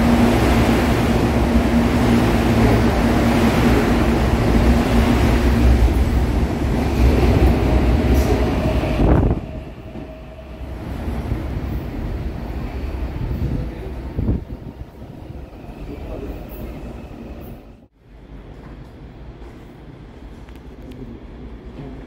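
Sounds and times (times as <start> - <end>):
distant train rumble: 0.0 - 20.4
train wheels rumbling: 0.0 - 22.0.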